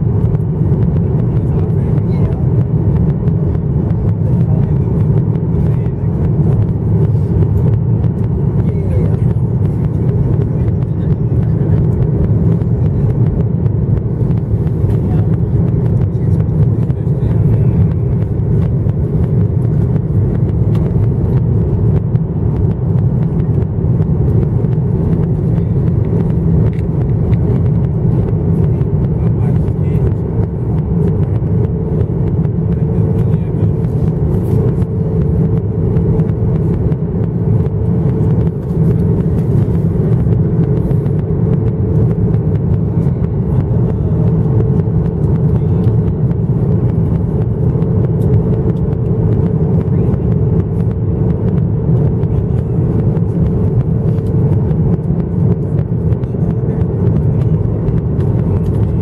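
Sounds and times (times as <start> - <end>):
airflow over fuselage: 0.0 - 59.0
jet engines deep rumble: 0.0 - 59.0.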